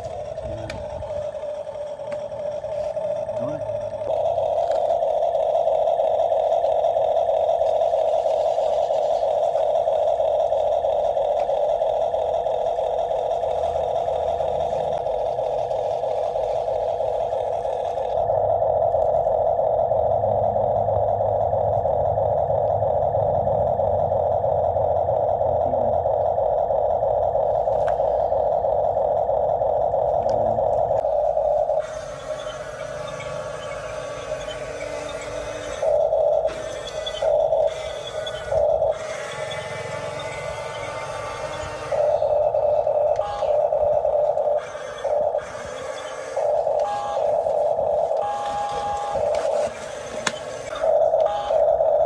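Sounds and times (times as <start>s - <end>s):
small motor whirring: 0.0s - 52.0s.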